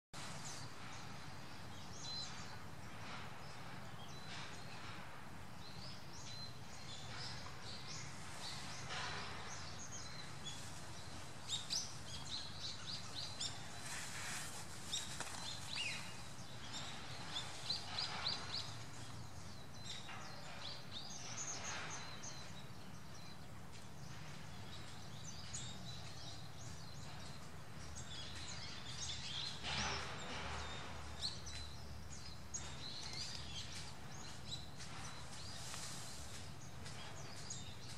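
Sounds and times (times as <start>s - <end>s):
birds chirping and whistling: 5.6s - 37.9s.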